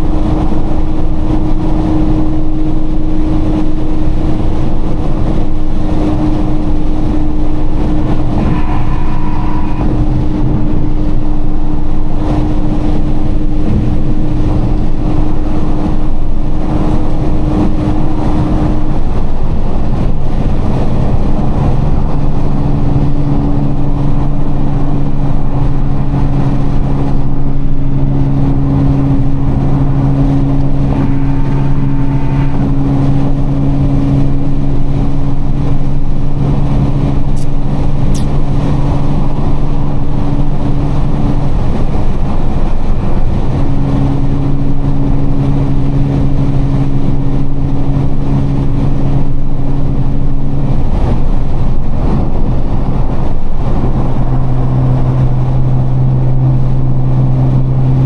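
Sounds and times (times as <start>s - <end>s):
car engine drone: 0.0s - 58.0s
tyre and road noise: 0.0s - 58.0s.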